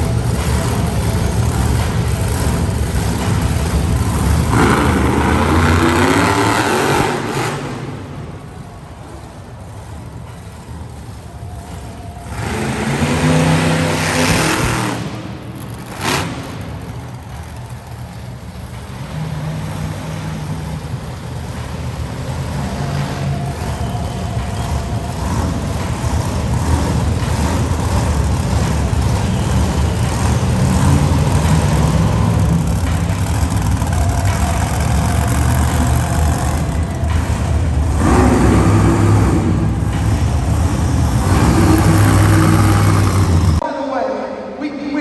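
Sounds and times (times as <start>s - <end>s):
monster truck engine revving: 0.0s - 43.6s.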